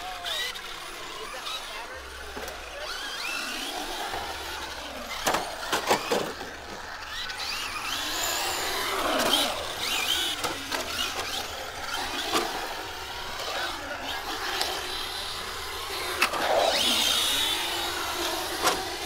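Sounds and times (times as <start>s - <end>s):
rc car motors whining: 0.0s - 19.0s.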